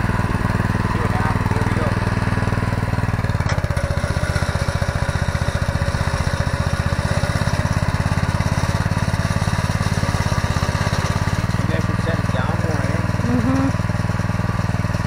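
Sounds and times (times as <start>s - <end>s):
tiller engine putter: 0.0s - 15.0s.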